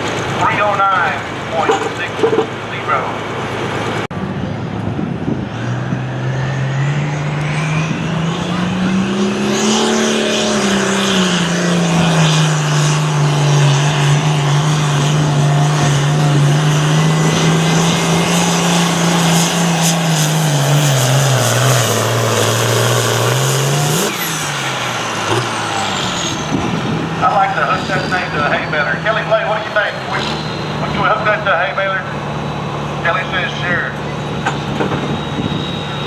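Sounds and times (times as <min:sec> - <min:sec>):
tractor engine revving under load: 0:00.0 - 0:36.0.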